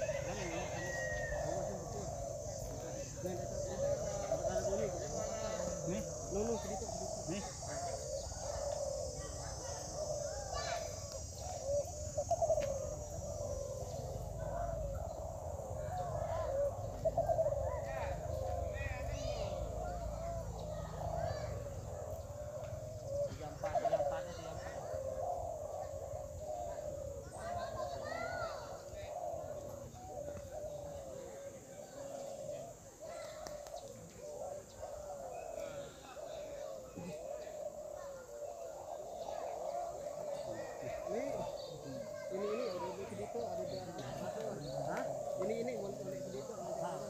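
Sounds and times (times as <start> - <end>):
doves cooing: 0.0 - 47.0.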